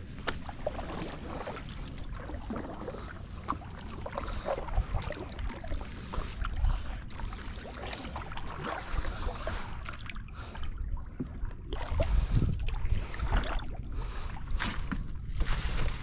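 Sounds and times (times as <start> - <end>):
water lapping around canoe: 0.0 - 16.0
wind rumbling on microphone: 0.0 - 16.0
small knocks and splashes: 0.1 - 16.0.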